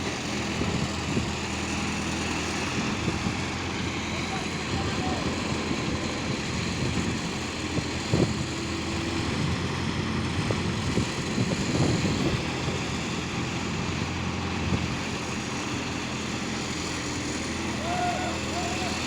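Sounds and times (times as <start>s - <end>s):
diesel crane engines running: 0.0s - 19.0s.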